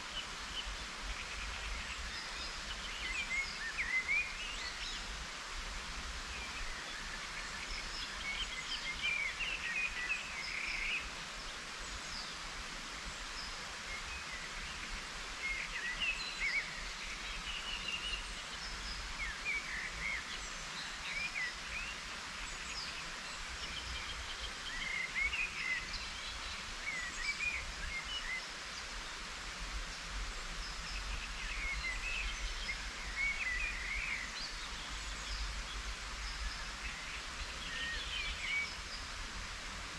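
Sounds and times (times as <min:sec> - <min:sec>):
light rain hiss: 0:00.0 - 0:39.9
small birds chirping: 0:06.1 - 0:39.9.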